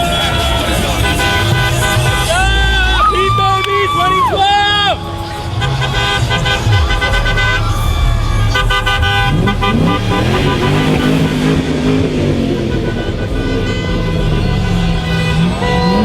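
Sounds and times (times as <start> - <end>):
car engines rumbling: 0.0 - 16.0
car horns honking: 0.0 - 16.0.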